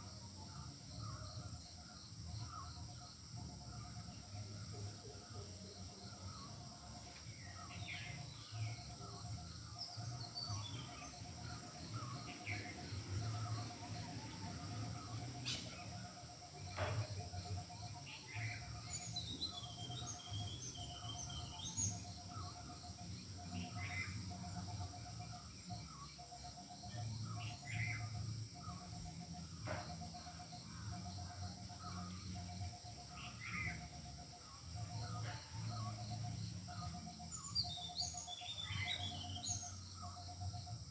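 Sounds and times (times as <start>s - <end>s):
bird pulsed trill: 0.0s - 40.9s.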